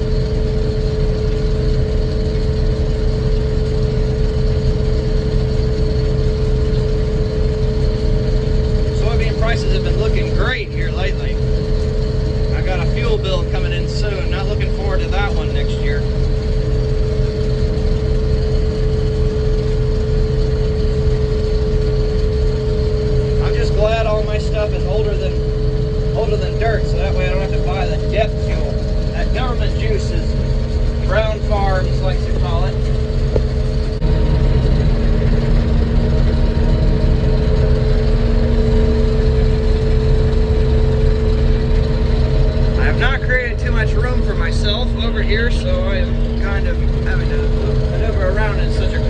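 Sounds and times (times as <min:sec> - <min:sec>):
combine harvester engine rumble: 0:00.0 - 0:49.0
steady machine whine: 0:00.0 - 0:49.0.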